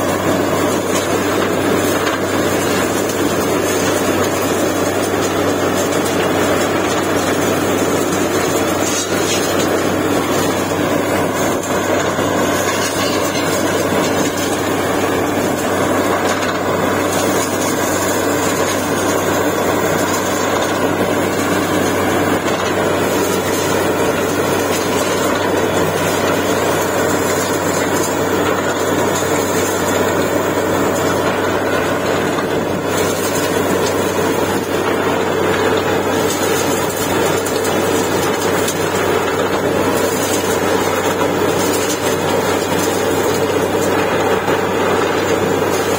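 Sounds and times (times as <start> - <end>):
drilling rig engine drone: 0.0 - 45.9.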